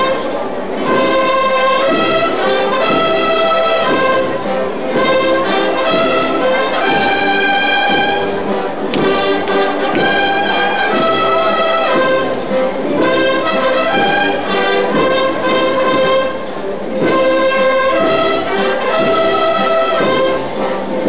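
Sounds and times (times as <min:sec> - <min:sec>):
brass band playing slow march: 0:00.0 - 0:21.0.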